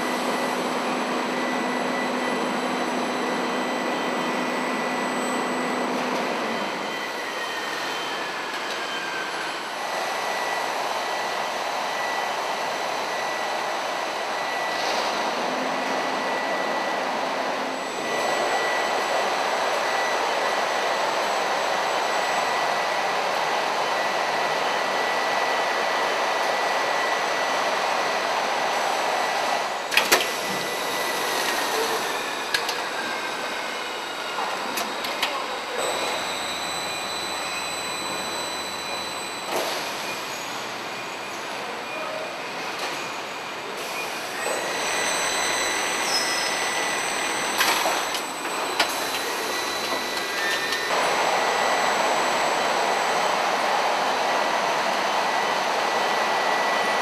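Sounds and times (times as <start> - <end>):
packaging machine hissing and whining: 0.0 - 57.0.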